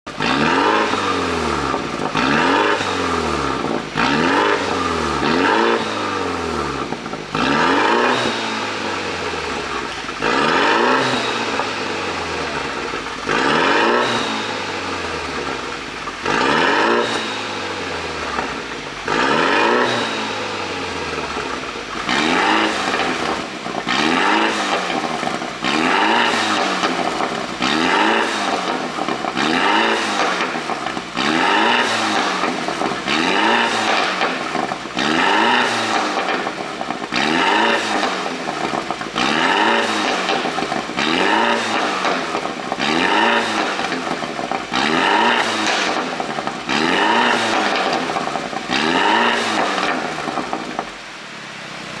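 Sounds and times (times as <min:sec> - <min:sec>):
car engine revving: 0:00.0 - 0:52.0
exhaust pops and crackles: 0:00.0 - 0:52.0.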